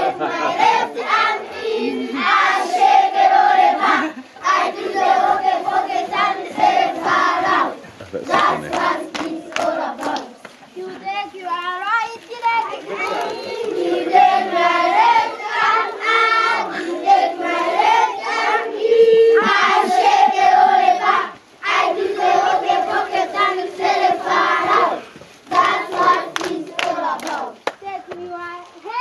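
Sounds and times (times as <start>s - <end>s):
young children singing together: 0.0s - 11.0s, 12.6s - 29.0s.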